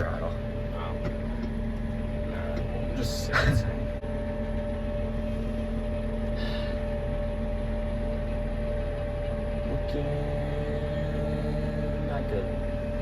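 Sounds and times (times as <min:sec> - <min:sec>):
tractor engine whining: 0:00.0 - 0:13.0.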